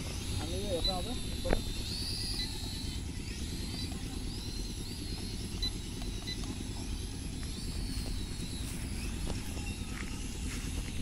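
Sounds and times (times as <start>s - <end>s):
faint high chirps: 0.0s - 11.0s
low outdoor rumble: 0.0s - 11.0s.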